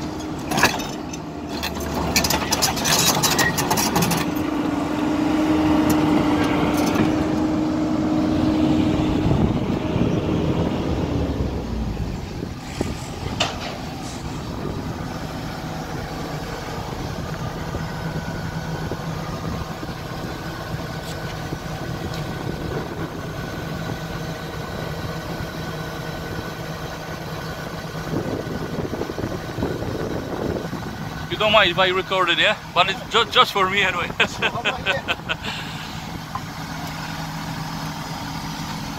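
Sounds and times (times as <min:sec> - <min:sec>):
excavator diesel engine idling: 0:00.0 - 0:38.9.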